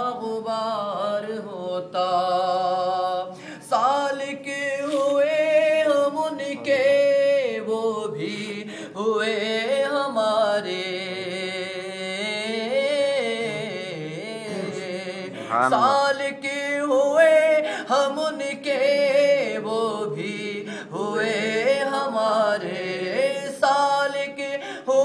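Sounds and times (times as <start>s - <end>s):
man singing unaccompanied: 0.0s - 25.0s.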